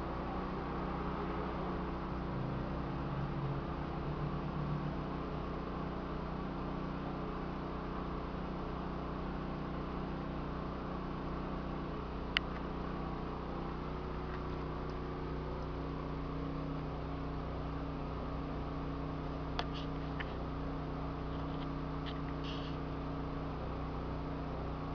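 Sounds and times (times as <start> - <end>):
steady mechanical hum: 0.0 - 24.9.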